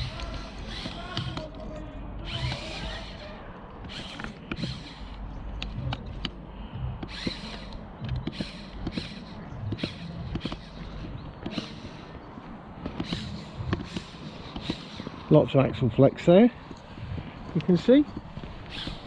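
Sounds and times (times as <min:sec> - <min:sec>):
toy motors and gears whirring: 0:00.0 - 0:12.2, 0:12.8 - 0:15.6, 0:17.6 - 0:19.0.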